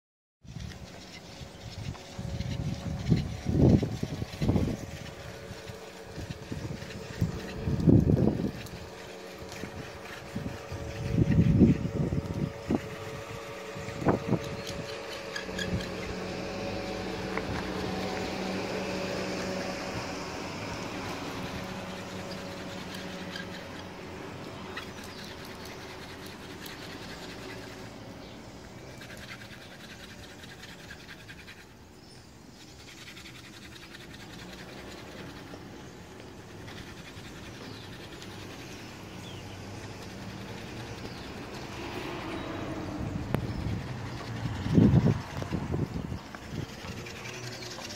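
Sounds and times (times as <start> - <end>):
wooden spindle rubbing on wood: 0.4 - 47.9.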